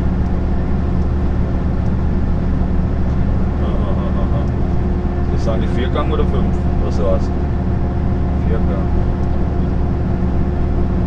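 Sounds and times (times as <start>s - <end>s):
diesel engine drone: 0.0s - 11.0s
road and tyre noise: 0.0s - 11.0s.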